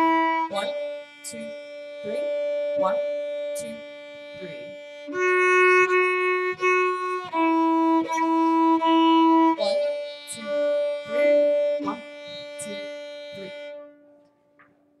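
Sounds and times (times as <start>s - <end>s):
violin bowing: 0.0s - 14.3s.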